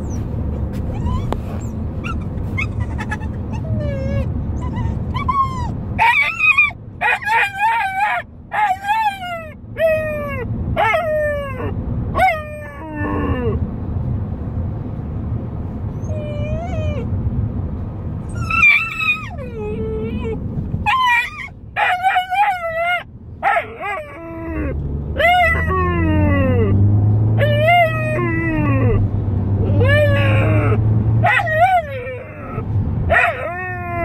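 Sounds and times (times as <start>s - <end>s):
dog whining and howling: 0.0s - 13.6s, 16.0s - 17.1s, 18.2s - 29.0s, 29.6s - 34.0s
low rumble of car: 0.0s - 34.0s.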